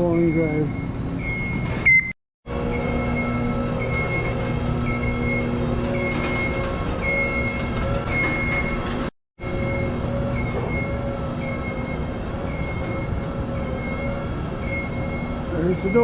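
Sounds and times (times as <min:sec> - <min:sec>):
travel alarm beeps: 0:00.0 - 0:16.0
powered lift drive rumbling: 0:00.8 - 0:16.0.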